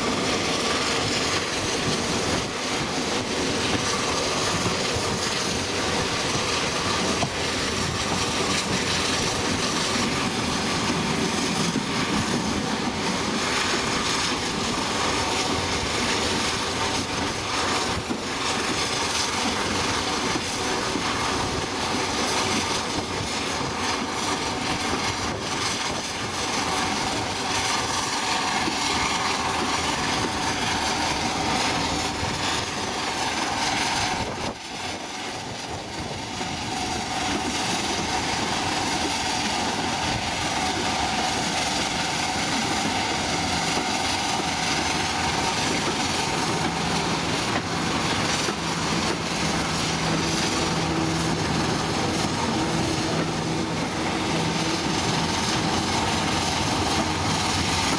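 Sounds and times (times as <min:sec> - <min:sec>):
steam locomotive running: 0:00.0 - 0:57.9.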